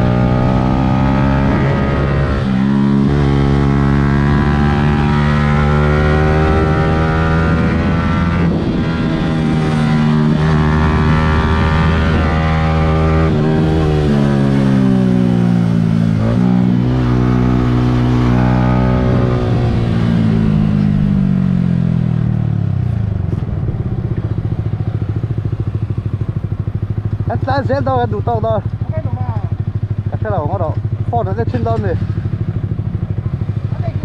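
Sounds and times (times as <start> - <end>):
motorcycle engine revving and idling: 0.0 - 34.0.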